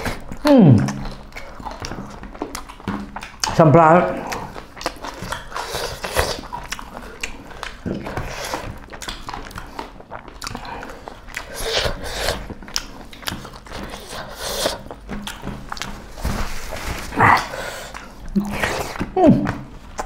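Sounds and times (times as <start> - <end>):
chewing with mouth clicks: 0.0 - 20.0.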